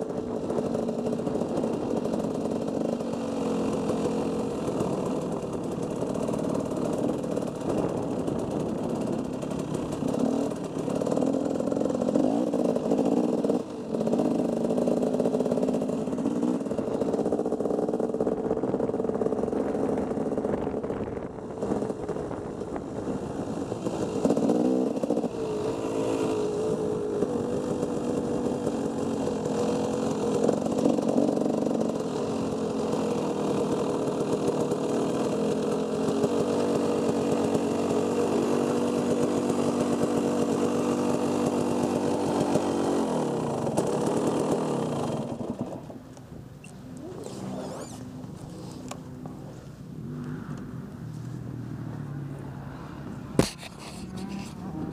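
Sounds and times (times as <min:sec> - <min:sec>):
dirt bike engine revving: 0:00.0 - 0:45.9, 0:47.0 - 0:49.1, 0:53.5 - 0:54.9.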